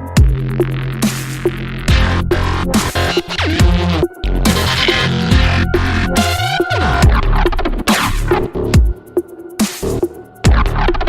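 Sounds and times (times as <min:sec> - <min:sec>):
dubstep music with heavy bass: 0:00.0 - 0:11.0.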